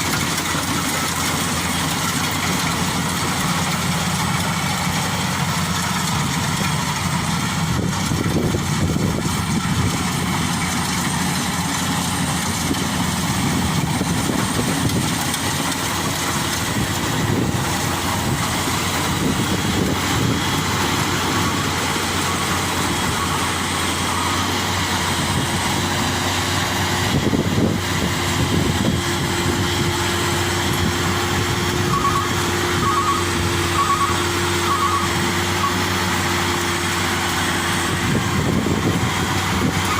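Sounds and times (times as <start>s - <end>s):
diesel engine running: 0.0s - 39.9s
steady whine: 0.0s - 39.9s.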